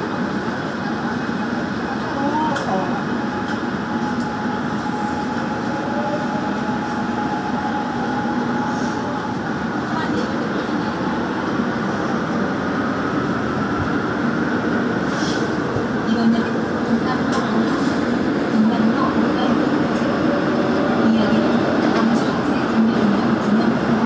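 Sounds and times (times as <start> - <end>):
subway train wheels rumbling on rail: 0.0 - 24.0.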